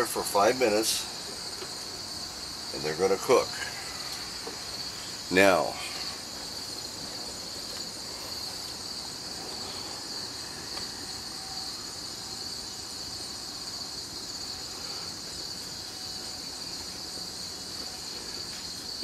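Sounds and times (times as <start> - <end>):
crickets chirping: 0.0 - 19.0
low even hiss: 0.0 - 19.0.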